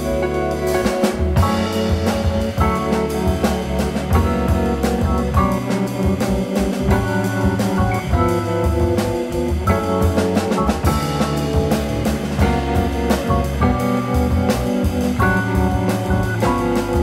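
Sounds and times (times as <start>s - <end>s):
drum kit cymbals and drums: 0.0s - 17.0s
jazz group playing: 0.0s - 17.0s
low bass line: 0.0s - 17.0s.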